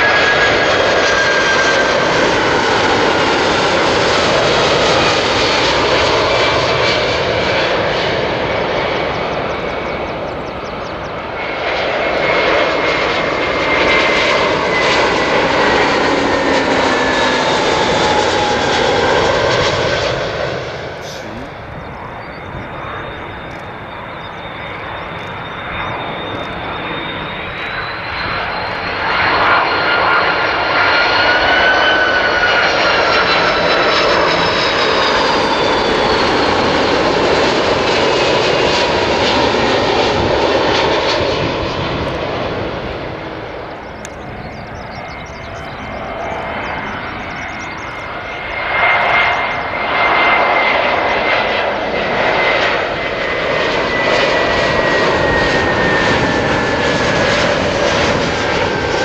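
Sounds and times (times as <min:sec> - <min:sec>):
jet engines whining: 0:00.0 - 0:59.0
second airliner whining: 0:00.0 - 0:59.0.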